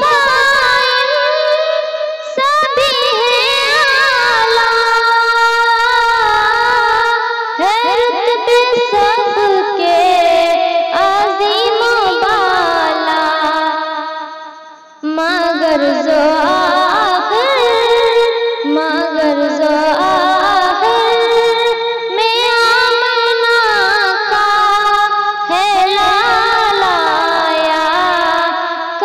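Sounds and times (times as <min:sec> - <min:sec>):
woman singing a hymn: 0:00.0 - 0:14.2, 0:15.0 - 0:29.0.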